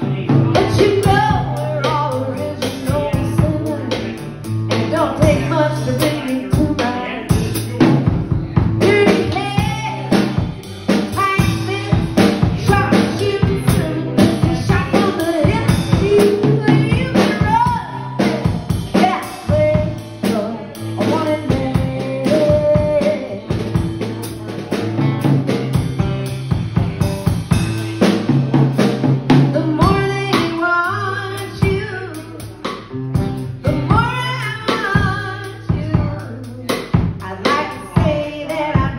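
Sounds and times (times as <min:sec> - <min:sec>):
woman singing: 0:00.0 - 0:08.2, 0:08.8 - 0:23.9, 0:29.4 - 0:32.8, 0:33.6 - 0:38.9
acoustic-electric guitar: 0:00.0 - 0:38.9
drum kit beat: 0:00.0 - 0:38.9.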